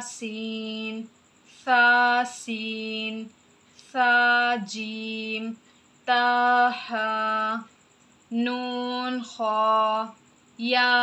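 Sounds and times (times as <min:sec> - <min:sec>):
woman chanting syllables: 0:00.0 - 0:11.0.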